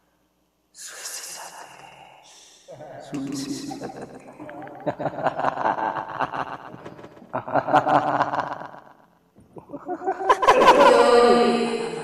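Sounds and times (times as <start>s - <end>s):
distorted layered voices: 0.8s - 12.0s.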